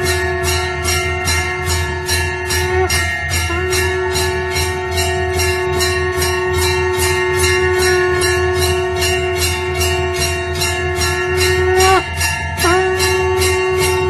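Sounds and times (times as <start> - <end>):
bells ringing rhythmically: 0.0 - 14.0
long held steady note: 0.0 - 14.0.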